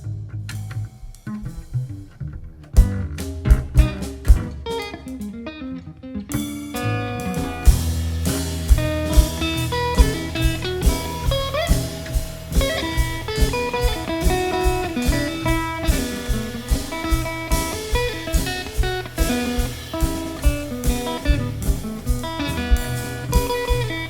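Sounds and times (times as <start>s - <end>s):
drum kit steady beat: 0.0s - 2.1s, 2.7s - 5.4s, 6.3s - 24.0s
low bass notes: 0.0s - 4.8s, 6.3s - 18.1s, 18.9s - 24.0s
guitar melody: 1.2s - 24.0s.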